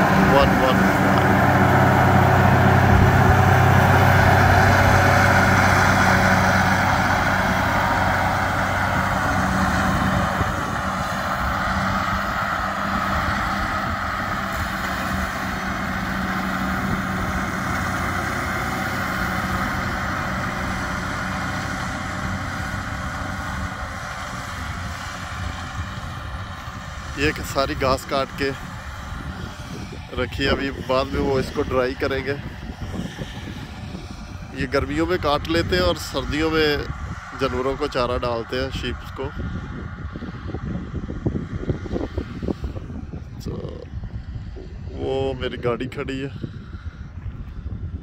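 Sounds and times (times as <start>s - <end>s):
tractor engine droning: 0.0s - 48.0s.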